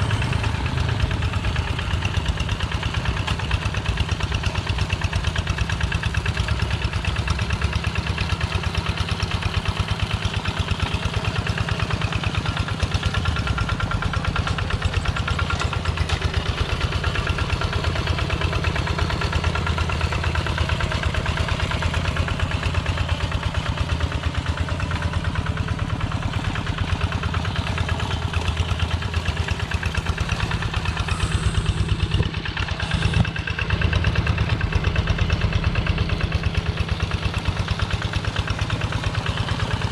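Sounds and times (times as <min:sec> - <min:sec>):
tractor diesel engine thudding: 0:00.0 - 0:39.9.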